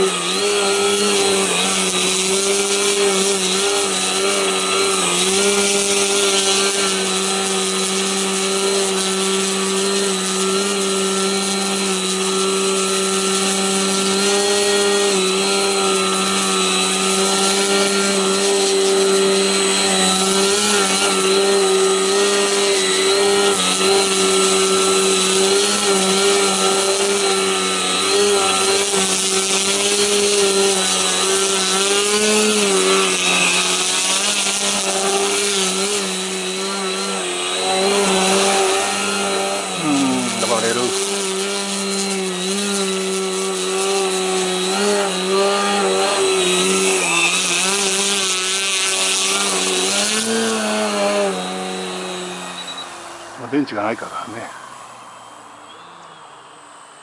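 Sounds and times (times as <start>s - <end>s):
electric motor and propeller buzzing: 0.0s - 57.0s.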